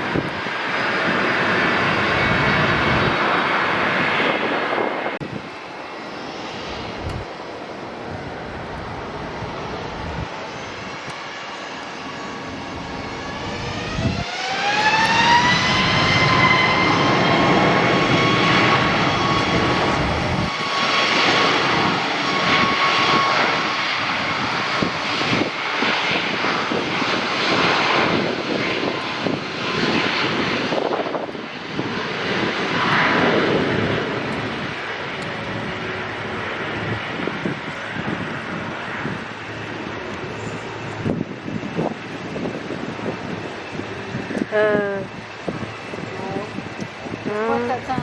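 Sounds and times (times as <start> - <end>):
jet engine whine: 0.0 - 48.0
jet engines roaring: 0.0 - 48.0.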